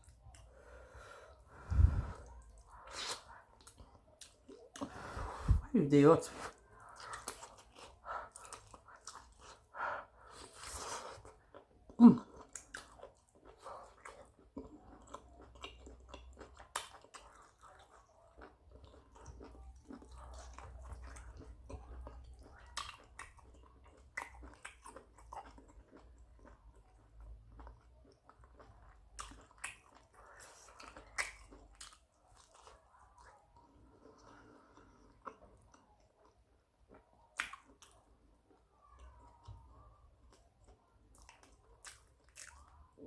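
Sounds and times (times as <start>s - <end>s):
person chewing food: 0.0s - 5.6s, 6.3s - 43.0s.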